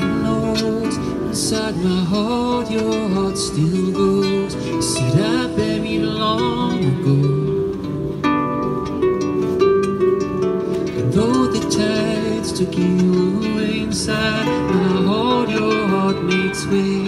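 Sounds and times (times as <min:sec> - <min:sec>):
man singing: 0:00.0 - 0:07.8, 0:11.0 - 0:17.0
harp plucked notes: 0:00.0 - 0:17.0.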